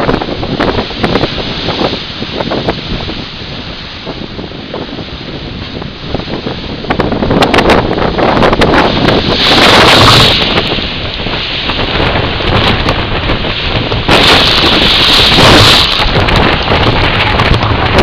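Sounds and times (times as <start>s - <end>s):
storm surf rushing: 0.0s - 18.0s
wind buffeting microphone: 0.0s - 18.0s.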